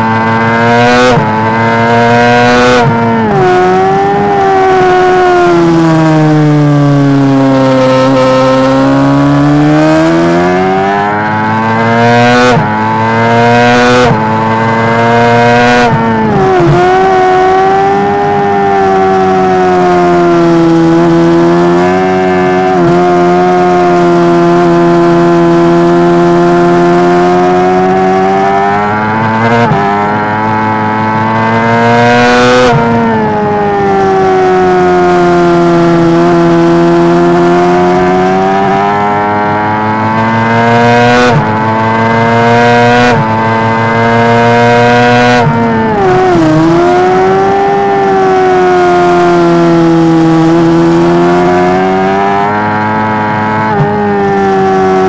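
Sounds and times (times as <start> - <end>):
motorcycle engine at racing revs: 0.0 - 55.0.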